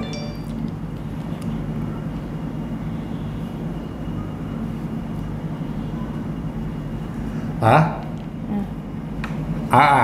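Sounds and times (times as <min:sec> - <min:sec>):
low machine hum: 0:00.0 - 0:09.2.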